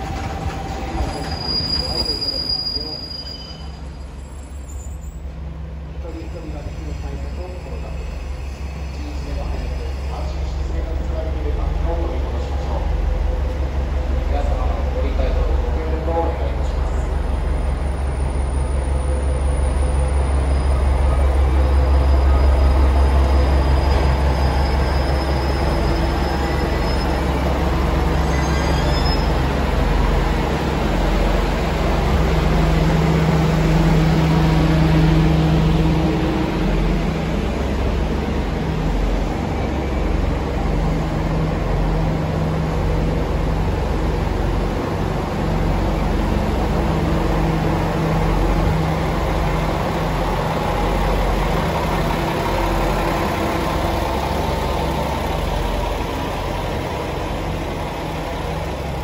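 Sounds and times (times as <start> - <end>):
diesel train engines rumbling: 0.0 - 59.0.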